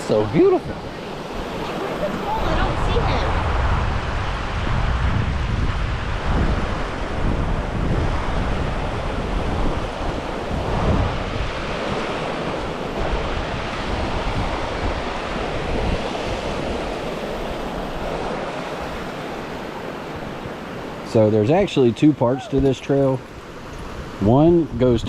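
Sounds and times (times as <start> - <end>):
fast-flowing river rushing: 0.0 - 25.0
wind buffeting microphone: 0.0 - 25.0.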